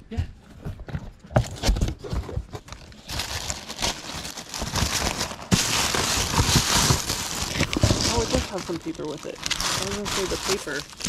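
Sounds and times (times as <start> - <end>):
plastic wrapping crinkling: 1.5 - 11.0.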